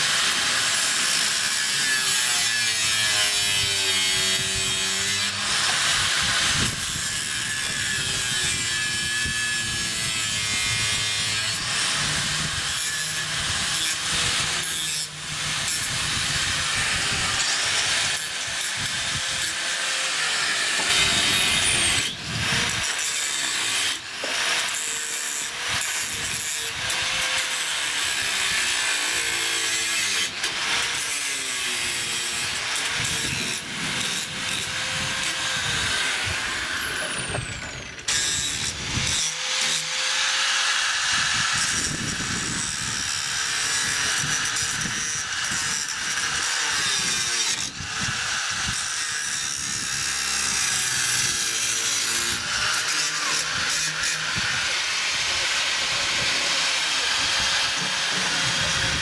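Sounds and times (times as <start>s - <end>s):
power tool sawing: 0.0s - 59.0s.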